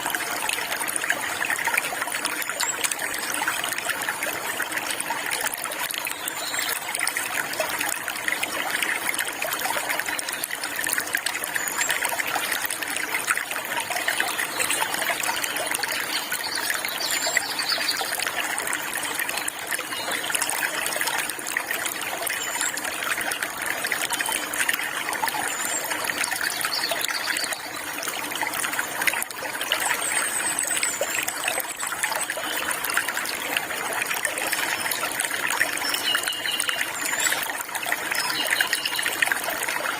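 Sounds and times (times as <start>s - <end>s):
water trickling and flowing: 0.0s - 39.9s.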